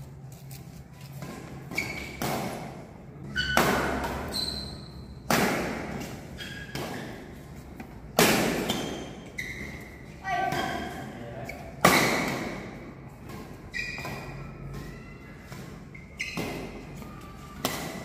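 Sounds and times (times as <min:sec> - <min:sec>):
rackets hitting shuttlecocks: 0:01.1 - 0:18.0.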